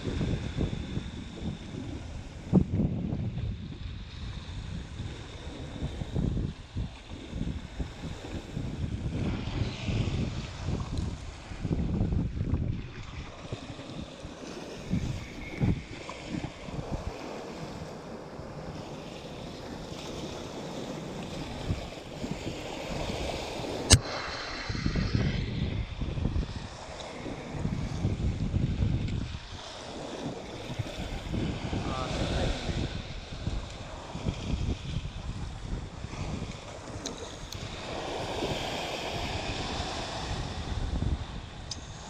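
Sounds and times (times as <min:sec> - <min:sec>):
wind buffeting microphone: 0:00.0 - 0:42.0
waves washing over rocks: 0:04.8 - 0:42.0.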